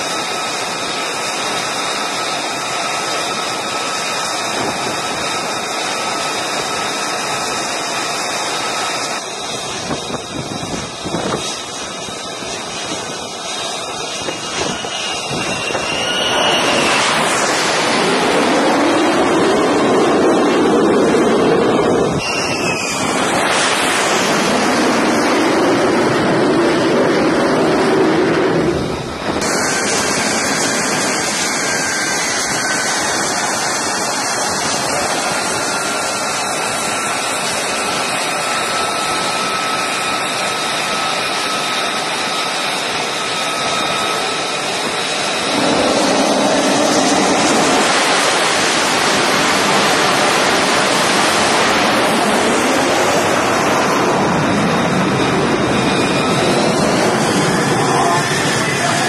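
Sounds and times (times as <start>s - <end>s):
jet engine rush: 0.0s - 59.0s.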